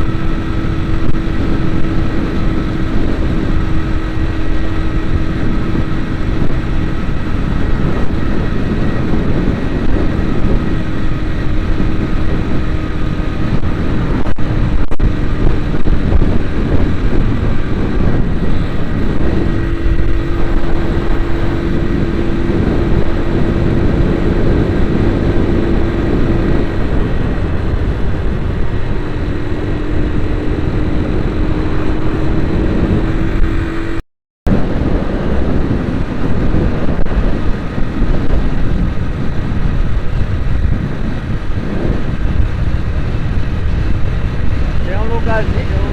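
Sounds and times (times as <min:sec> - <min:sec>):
road rumble: 0:00.0 - 0:45.9
vehicle engine drone: 0:00.0 - 0:45.9.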